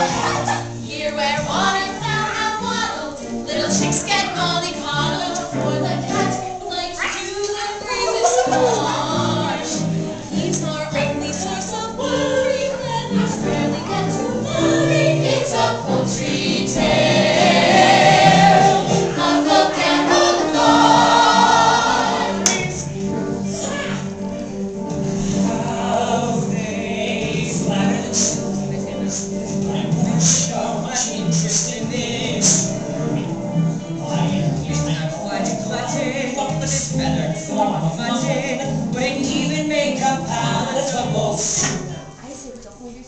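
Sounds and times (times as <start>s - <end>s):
group singing: 0.0s - 23.0s, 25.2s - 42.1s.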